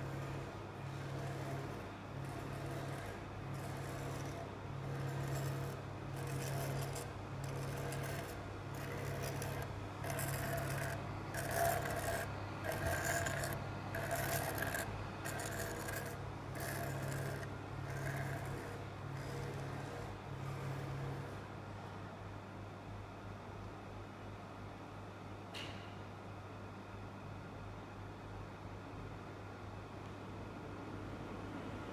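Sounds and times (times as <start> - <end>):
projector mechanical noise: 0.0 - 31.9.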